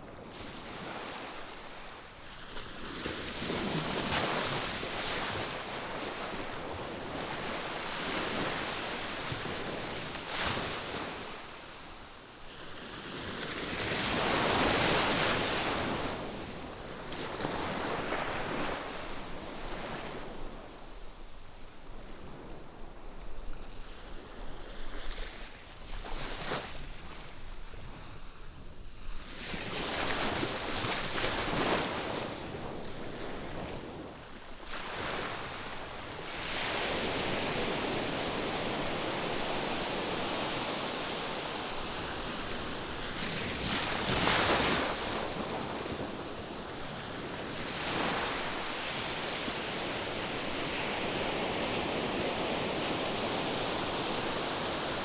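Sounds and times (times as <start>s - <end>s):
waves breaking on shore: 0.0s - 27.6s, 29.3s - 55.0s.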